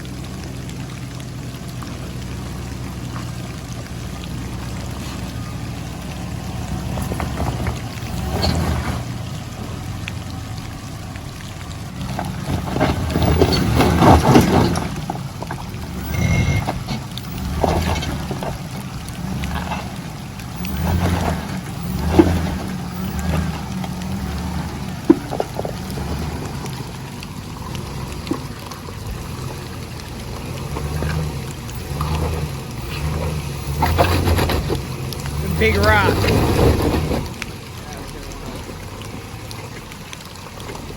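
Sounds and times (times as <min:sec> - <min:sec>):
vehicle engine droning: 0:00.0 - 0:40.9
water and mud splashing: 0:00.0 - 0:40.9.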